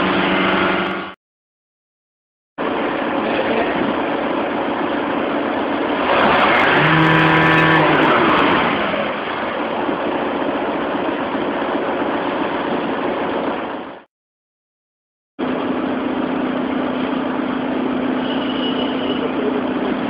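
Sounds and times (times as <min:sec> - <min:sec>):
car engine idling and revving: 0:00.0 - 0:01.2, 0:02.6 - 0:14.1, 0:15.4 - 0:20.0.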